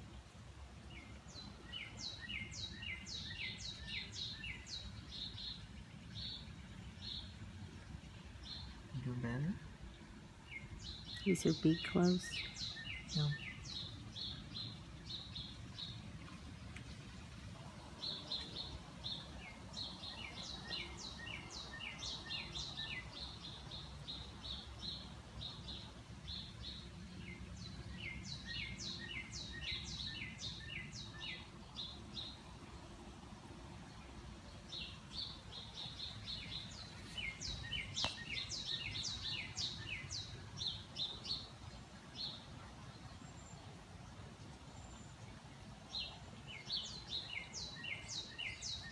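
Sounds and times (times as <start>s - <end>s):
songbird chirping: 0.8s - 48.9s.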